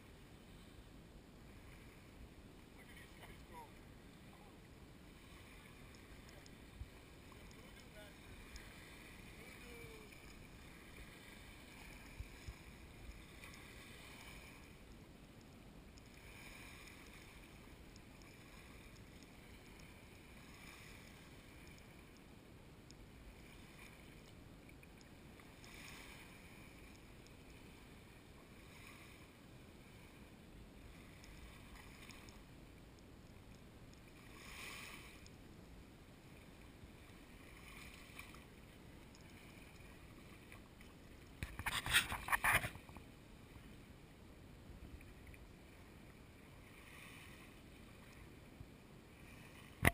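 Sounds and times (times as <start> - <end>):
small waves lapping on sand: 0.0 - 44.3, 45.0 - 49.9.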